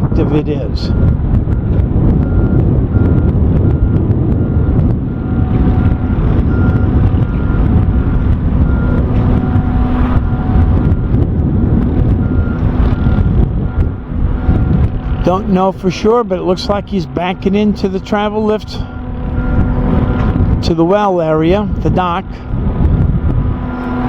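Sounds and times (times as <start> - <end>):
warning beeper: 0.0 - 11.3, 12.0 - 22.5
faint engine tone: 0.0 - 24.0
wind buffeting microphone: 0.0 - 24.0.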